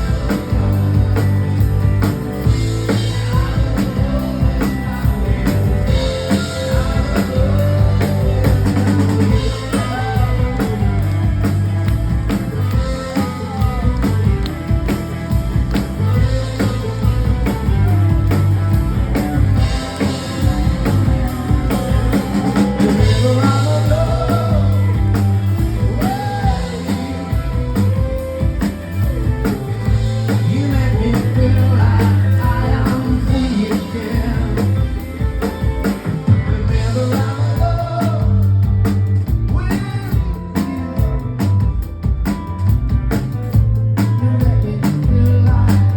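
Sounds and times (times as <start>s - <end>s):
wavering melodic lead line: 0.0s - 44.0s
bass: 0.0s - 45.9s
drum kit: 0.0s - 45.9s
guitar: 0.0s - 45.9s.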